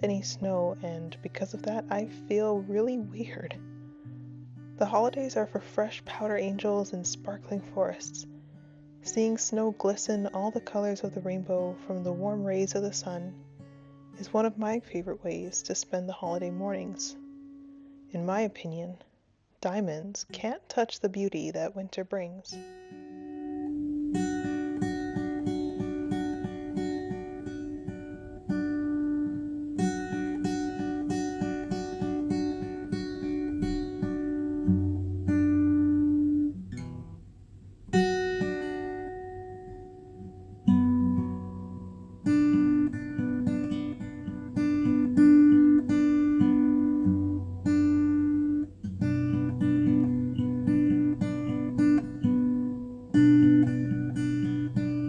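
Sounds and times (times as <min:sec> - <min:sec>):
acoustic guitar music: 0:00.0 - 0:18.8, 0:19.6 - 0:55.0.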